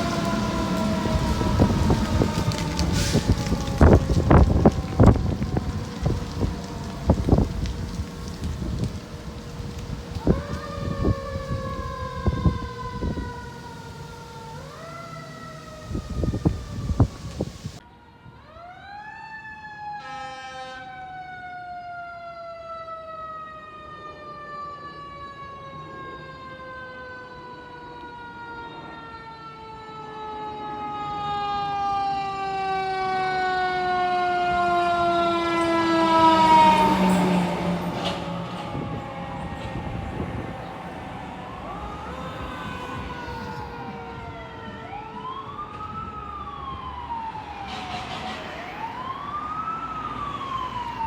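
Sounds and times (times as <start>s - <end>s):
fire truck siren wailing: 0.0s - 51.0s.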